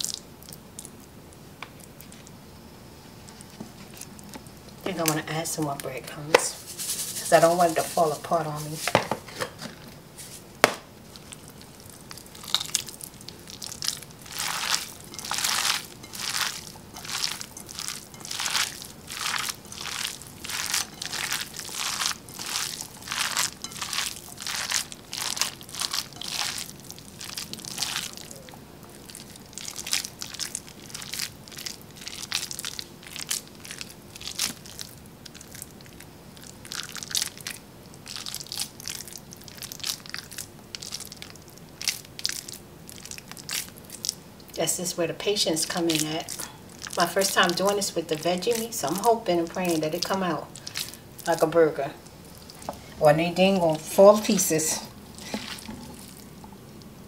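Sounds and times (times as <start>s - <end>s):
hands squeezing food mixture: 0.0s - 1.1s, 6.4s - 9.0s, 10.2s - 53.1s, 54.3s - 56.9s.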